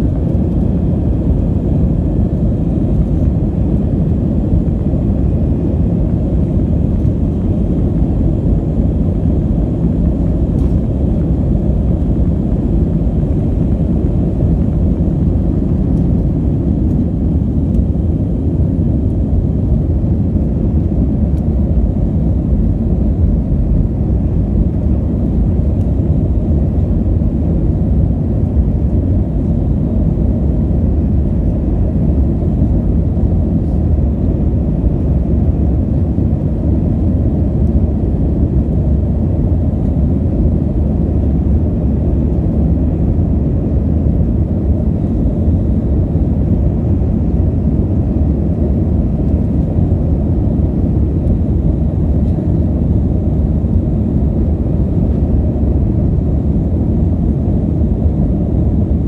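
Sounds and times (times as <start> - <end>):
airplane engines and airflow rumble: 0.0 - 59.0.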